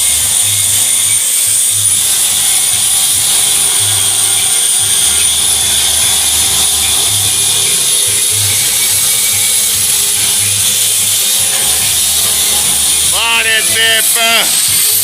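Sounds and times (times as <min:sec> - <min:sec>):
background music with deep bass: 0:00.0 - 0:15.0
power tool high-pitched whine: 0:00.0 - 0:15.0.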